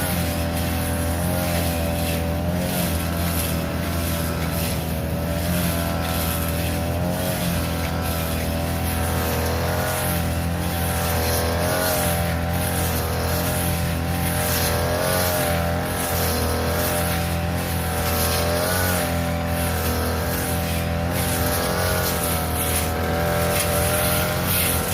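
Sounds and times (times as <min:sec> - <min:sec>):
grass cutter engine running: 0:00.0 - 0:24.9.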